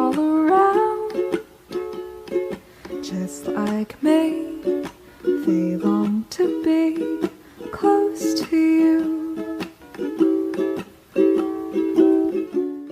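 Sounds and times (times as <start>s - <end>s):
strummed string instrument: 0.0s - 12.9s.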